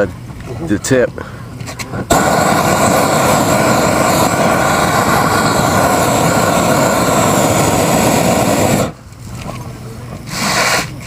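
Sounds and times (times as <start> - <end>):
roofing torch flame hissing: 1.2 - 11.0.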